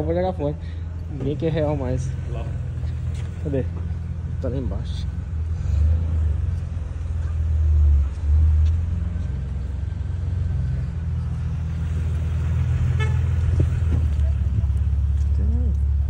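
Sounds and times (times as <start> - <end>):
car engines rumbling: 0.0 - 16.0.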